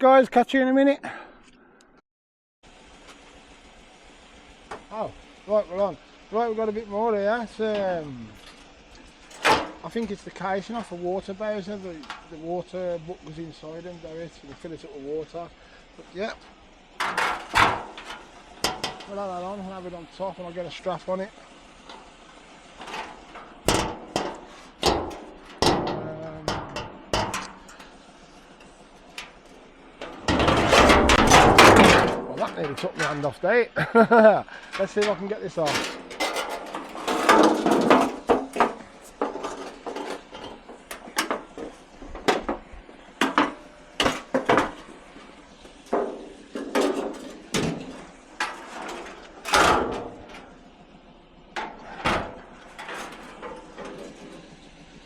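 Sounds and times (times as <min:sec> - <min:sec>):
metal bangs and clanks: 0:04.6 - 0:33.6, 0:34.6 - 0:55.0
scrap metal knocks and clatters: 0:07.1 - 0:33.5, 0:34.6 - 0:55.0.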